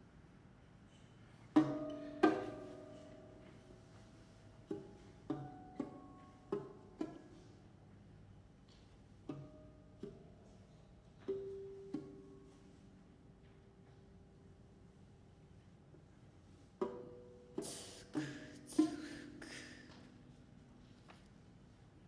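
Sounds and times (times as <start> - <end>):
solo lute plucked: 1.4 - 21.2.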